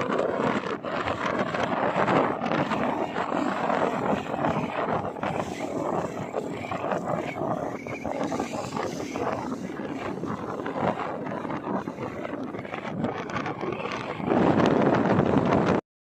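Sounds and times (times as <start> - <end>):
road noise: 0.0 - 15.8
wind buffeting: 0.0 - 15.8.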